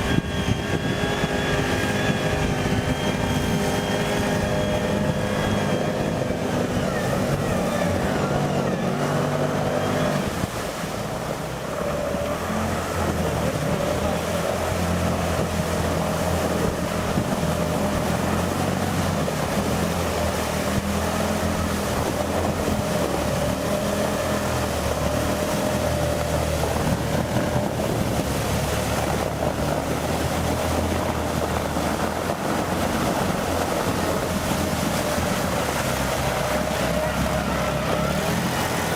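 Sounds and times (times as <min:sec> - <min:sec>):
bulldozer diesel engine: 0:00.0 - 0:38.9
water splashing: 0:00.0 - 0:38.9
wind noise on microphone: 0:00.0 - 0:38.9.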